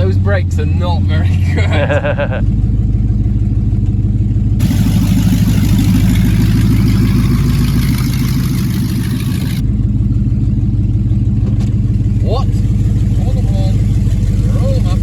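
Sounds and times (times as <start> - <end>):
pickup truck engine pulsing: 0.0 - 15.0.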